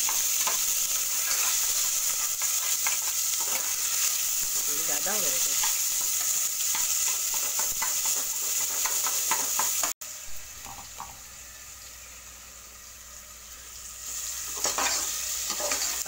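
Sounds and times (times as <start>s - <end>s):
spices sizzling in hot oil: 0.0s - 16.0s.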